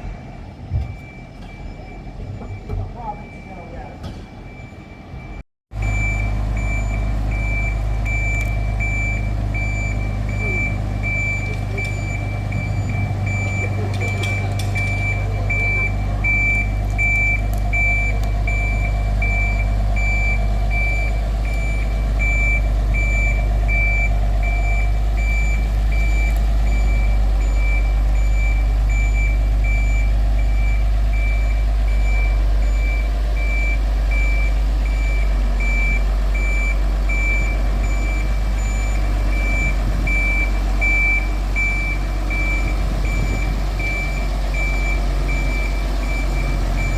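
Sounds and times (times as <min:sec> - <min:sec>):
reversing alarm beeping: 0:00.0 - 0:46.9.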